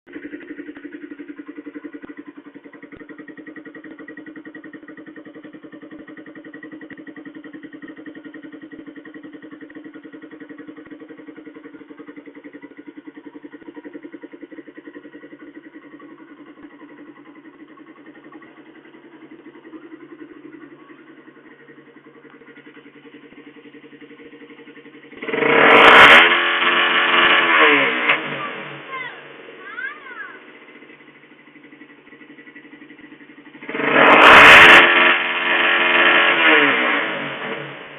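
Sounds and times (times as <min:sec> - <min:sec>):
engine idling and revving: 0:00.0 - 0:37.9.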